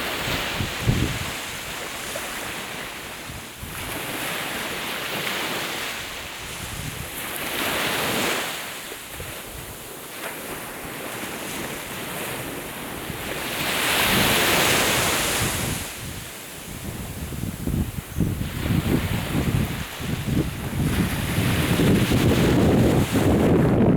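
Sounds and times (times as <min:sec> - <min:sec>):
wind buffeting microphone: 0:00.0 - 0:04.8, 0:05.9 - 0:08.3, 0:09.1 - 0:23.9
sea waves washing onto shore: 0:00.0 - 0:23.9.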